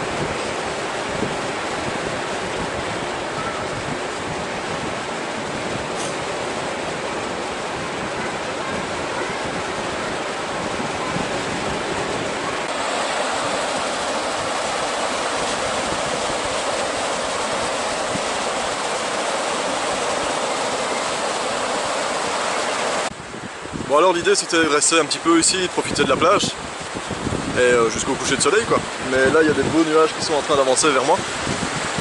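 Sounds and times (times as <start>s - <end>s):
waves breaking on beach: 0.0s - 32.0s.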